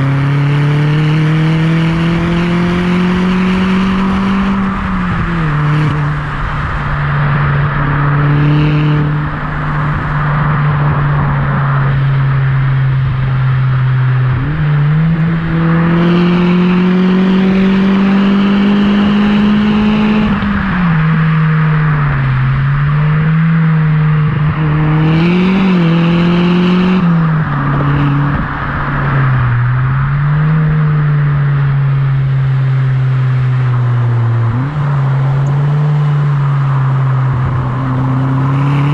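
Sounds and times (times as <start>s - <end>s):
turbocharged car exhaust: 0.0s - 38.9s.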